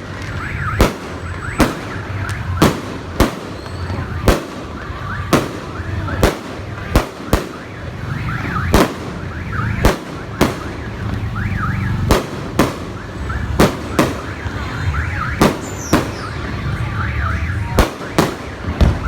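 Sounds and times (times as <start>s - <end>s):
firework bangs: 0.0s - 19.0s.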